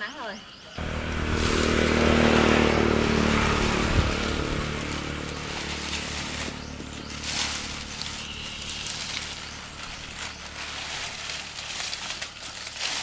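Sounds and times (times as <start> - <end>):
motorbike engine running: 0.8 - 13.0.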